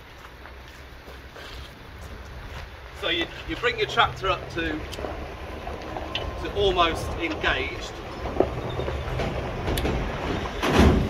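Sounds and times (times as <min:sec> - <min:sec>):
footsteps on gravel: 0:00.0 - 0:10.5
low rumble: 0:01.8 - 0:11.0.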